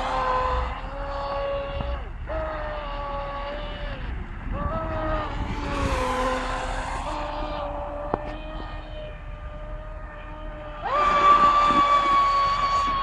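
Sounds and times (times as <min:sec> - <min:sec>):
model speedboat motor whining: 0:00.0 - 0:13.0.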